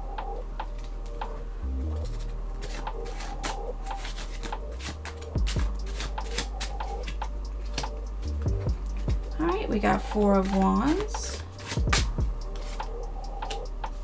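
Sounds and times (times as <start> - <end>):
cards being shuffled: 1.9 - 9.1, 9.7 - 14.0.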